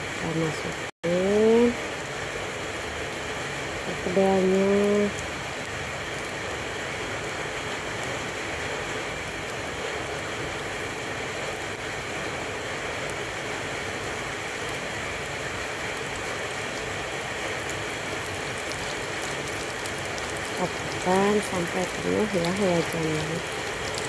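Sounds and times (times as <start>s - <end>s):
patties sizzling in hot oil: 3.5s - 24.0s.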